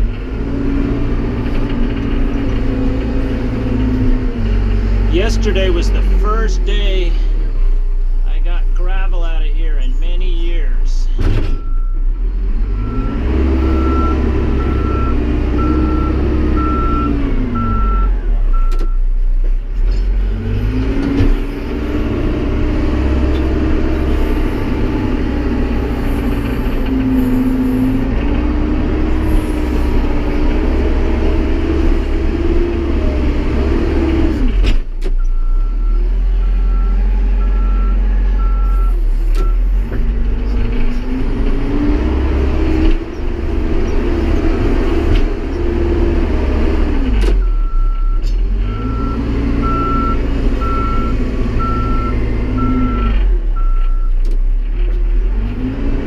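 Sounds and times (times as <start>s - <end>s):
backhoe loader engine working: 0.0s - 10.2s, 10.8s - 56.0s.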